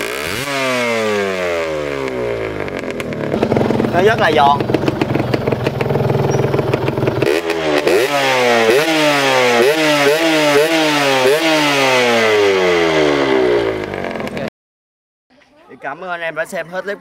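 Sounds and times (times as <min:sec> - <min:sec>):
two-stroke engine revving: 0:00.0 - 0:14.5.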